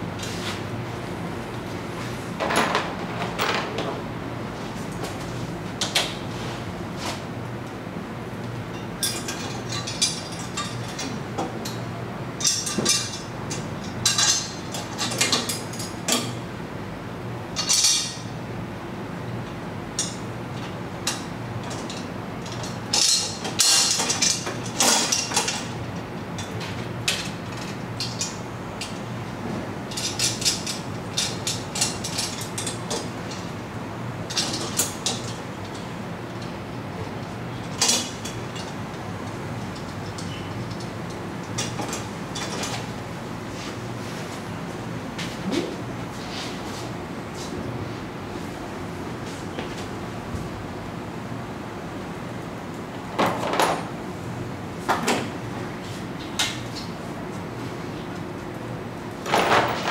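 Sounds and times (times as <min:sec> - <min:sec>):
steady low hum: 0:00.0 - 0:59.3.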